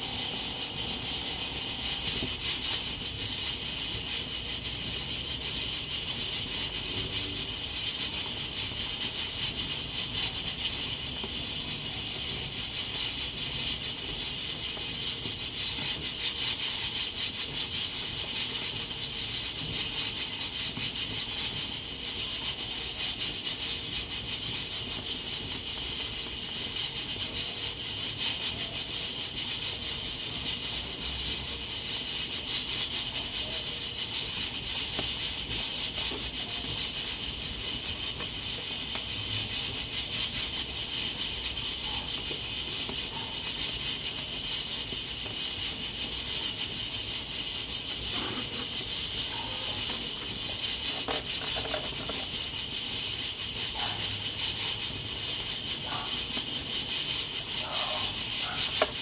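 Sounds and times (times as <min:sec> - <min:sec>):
pressure cooker hissing steam: 0:00.0 - 0:59.0.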